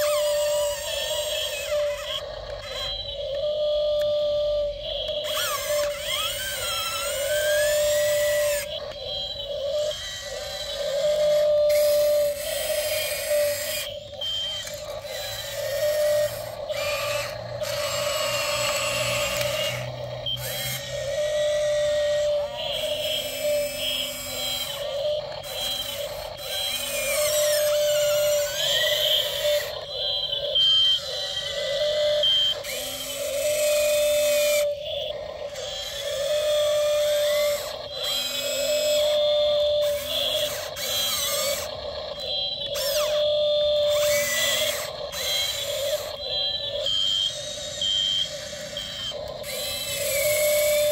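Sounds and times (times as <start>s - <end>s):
electric gear motors whirring: 0.0s - 50.9s.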